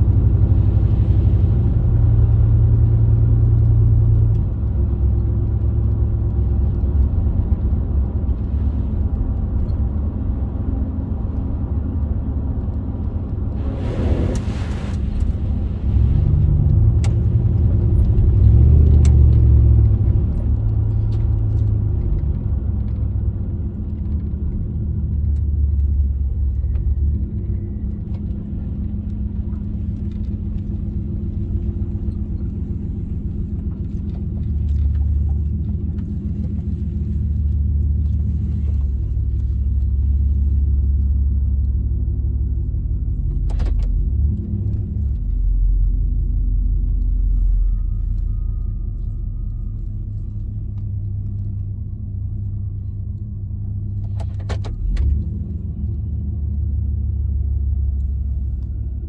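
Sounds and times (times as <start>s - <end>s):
deep engine exhaust rumble: 0.0s - 59.0s.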